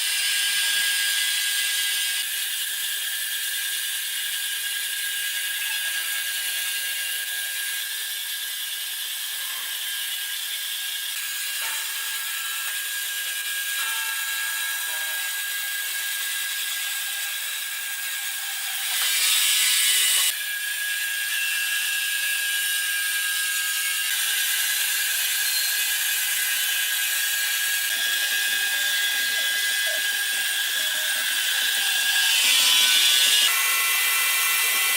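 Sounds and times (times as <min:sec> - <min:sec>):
sawmill machinery whining: 0:00.0 - 0:34.9.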